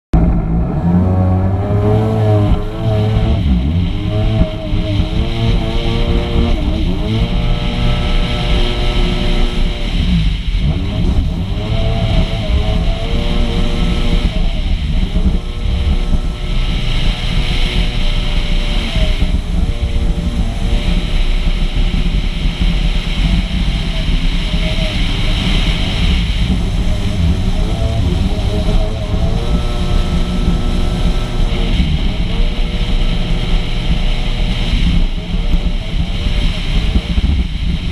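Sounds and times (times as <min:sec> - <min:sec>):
personal watercraft engine: 0:00.2 - 0:37.9
wind and water rushing: 0:00.2 - 0:37.9.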